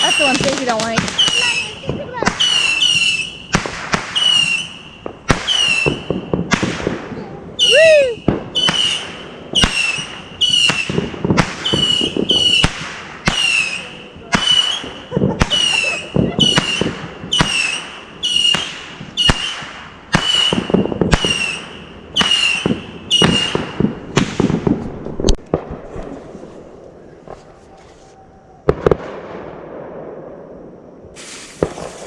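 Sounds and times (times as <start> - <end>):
firework shots with whistles: 0.0 - 26.2, 31.1 - 32.0.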